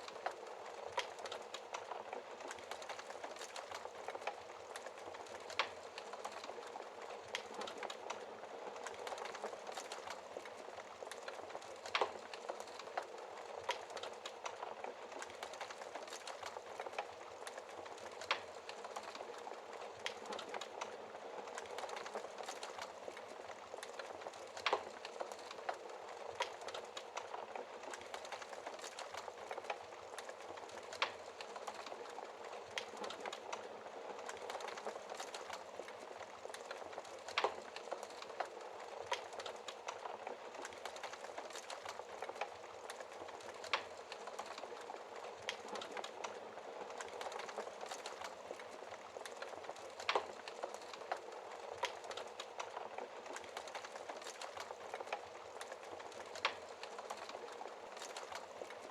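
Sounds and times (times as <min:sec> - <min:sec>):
logs crackling in a fireplace: 0:00.0 - 0:58.9.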